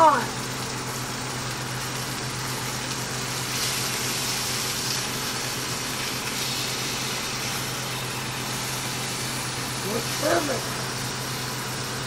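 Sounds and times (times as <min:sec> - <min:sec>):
meat sizzling in a skillet: 0:00.0 - 0:12.0
steady low hum: 0:00.0 - 0:12.0.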